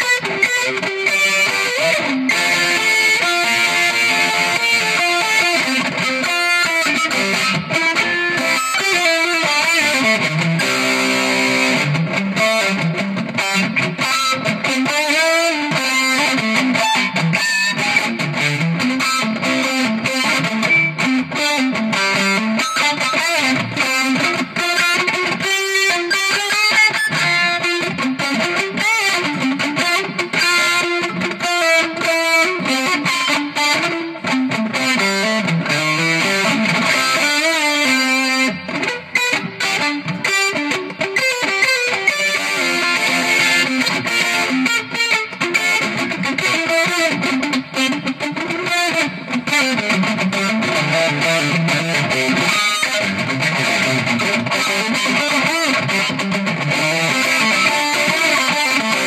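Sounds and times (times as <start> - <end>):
electric guitar lead with bends: 0.0 - 59.0.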